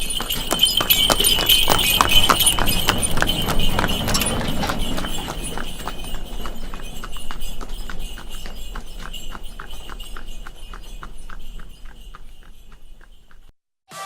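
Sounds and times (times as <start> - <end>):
bells ringing: 0.0 - 13.5
horse hooves clip-clopping: 0.0 - 13.5.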